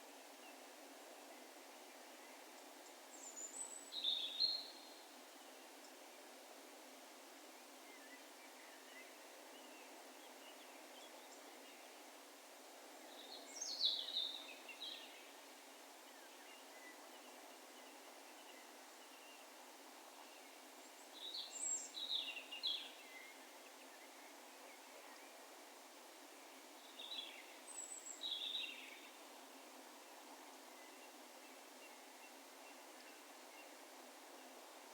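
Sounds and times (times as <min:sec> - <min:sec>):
low background hiss: 0:00.0 - 0:34.9.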